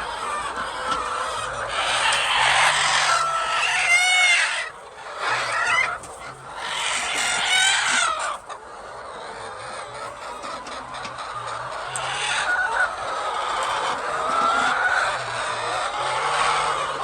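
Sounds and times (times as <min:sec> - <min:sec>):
chickens clucking: 0:00.0 - 0:17.0
drawn-out chicken calls: 0:00.0 - 0:17.0.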